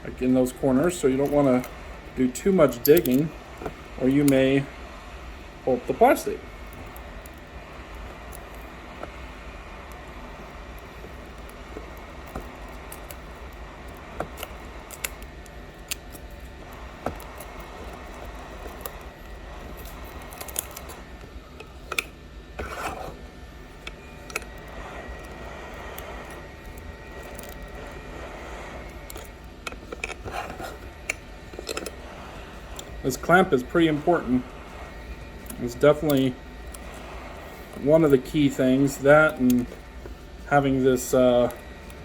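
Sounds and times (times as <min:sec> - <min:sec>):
low hum: 0:00.0 - 0:42.0.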